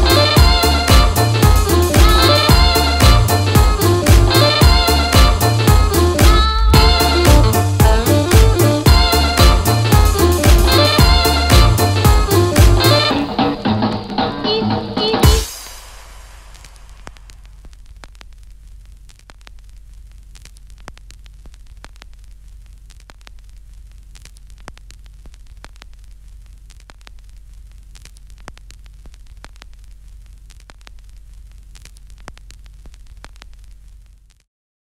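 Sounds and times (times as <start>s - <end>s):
static crackle: 0.0s - 14.3s, 15.2s - 34.5s.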